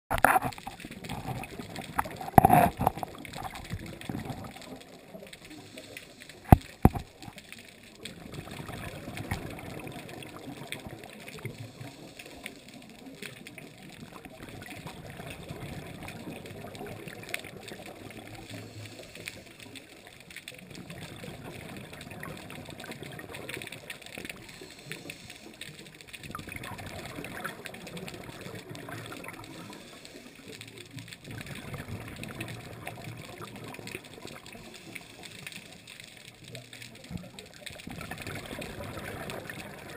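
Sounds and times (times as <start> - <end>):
underwater gurgling water: 0.1 - 39.9.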